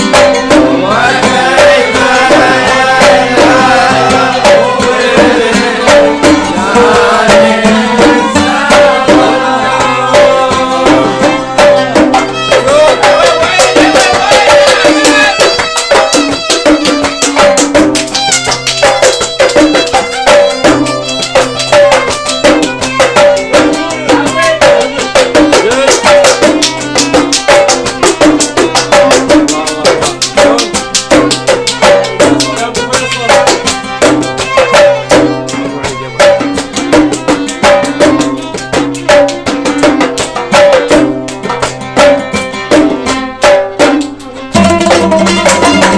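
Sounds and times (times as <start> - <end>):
bowed violins: 0.0 - 45.9
hand drums beat: 0.0 - 45.9
qanun melody: 0.0 - 45.9.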